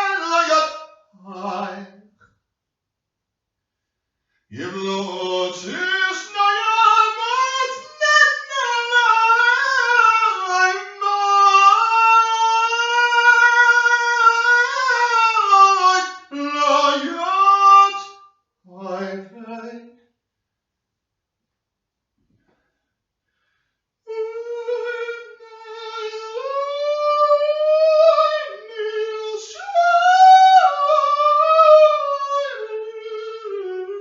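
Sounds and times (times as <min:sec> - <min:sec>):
high voice singing unaccompanied: 0:00.0 - 0:02.0, 0:04.6 - 0:19.9, 0:24.1 - 0:34.0.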